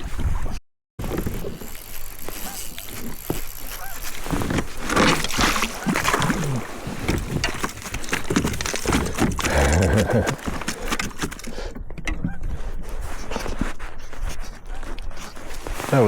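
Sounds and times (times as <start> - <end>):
water against kayak hull: 1.0 - 16.0.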